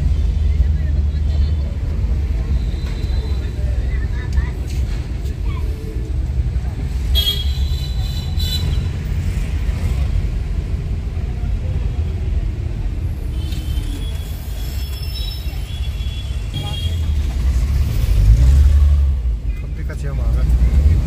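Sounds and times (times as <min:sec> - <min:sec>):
high-pitched street sounds: 0:00.0 - 0:21.0.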